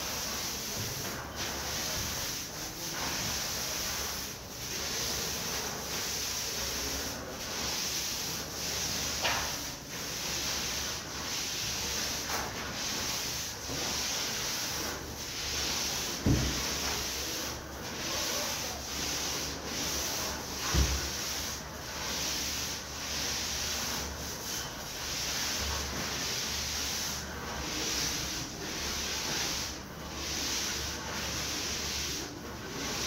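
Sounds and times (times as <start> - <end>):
paint roller swishing on wall: 0.0 - 33.0.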